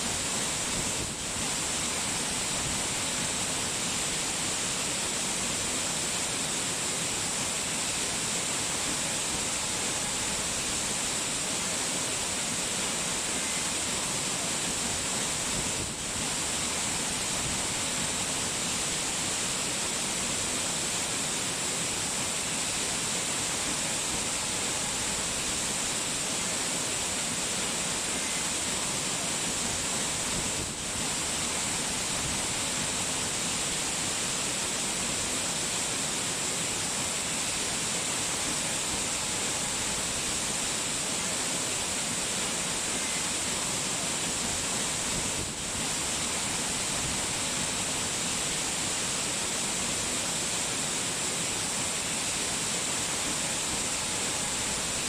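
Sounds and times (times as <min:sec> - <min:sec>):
falling water hiss: 0:00.0 - 0:55.0.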